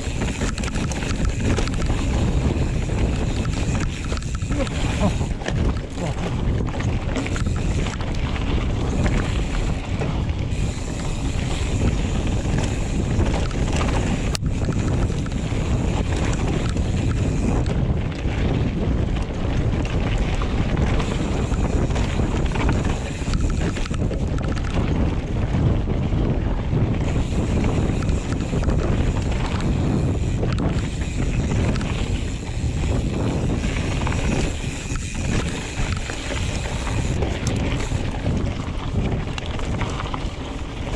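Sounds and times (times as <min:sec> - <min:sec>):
bike tyres rumbling on rough trail: 0:00.0 - 0:40.9
wind buffeting microphone: 0:00.0 - 0:40.9.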